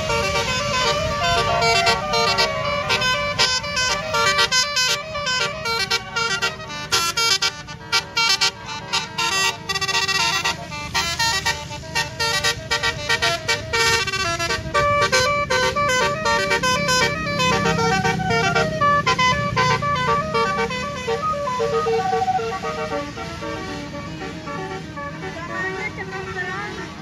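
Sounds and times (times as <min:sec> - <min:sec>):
bus horn playing fast melody: 0:00.0 - 0:27.0
low engine drone: 0:00.0 - 0:27.0.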